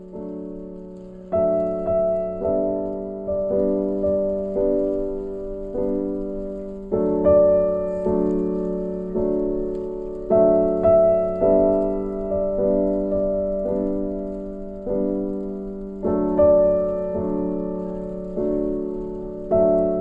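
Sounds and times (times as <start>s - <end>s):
gentle piano chords: 0.0s - 20.0s.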